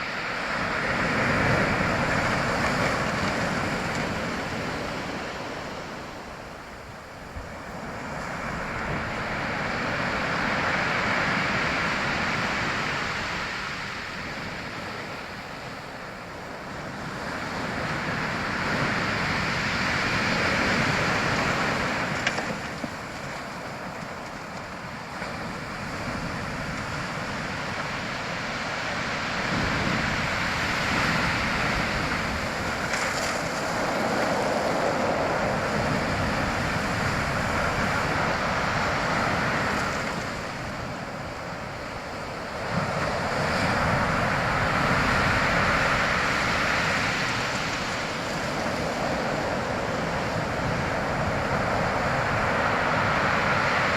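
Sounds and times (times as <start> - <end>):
sea waves breaking on shore: 0.0 - 53.9.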